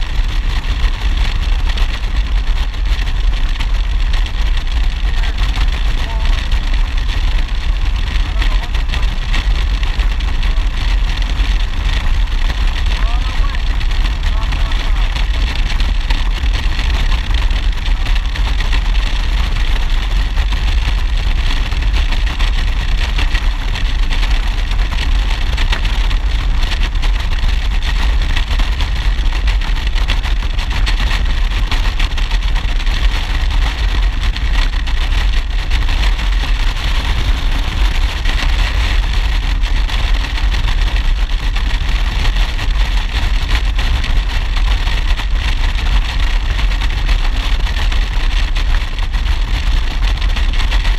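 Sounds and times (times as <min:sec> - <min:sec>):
wind and road noise: 0:00.0 - 0:50.9.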